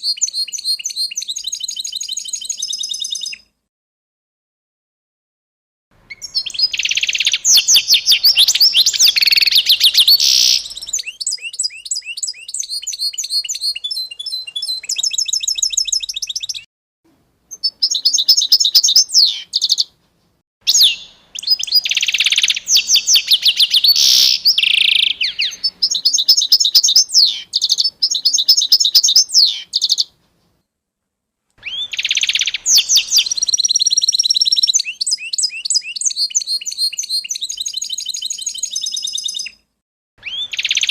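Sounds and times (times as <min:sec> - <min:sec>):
songbird chirps and trills: 0:00.0 - 0:03.5, 0:06.0 - 0:16.7, 0:17.5 - 0:19.9, 0:20.7 - 0:30.6, 0:31.6 - 0:39.6.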